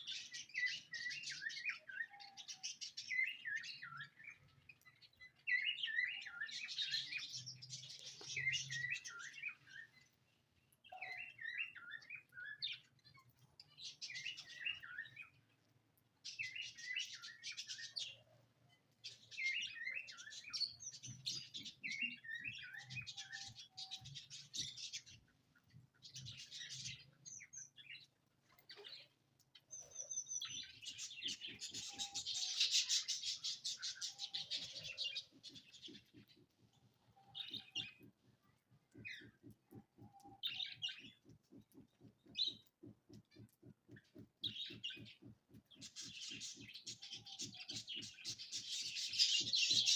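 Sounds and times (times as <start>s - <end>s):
small birds twittering: 0.0s - 49.9s.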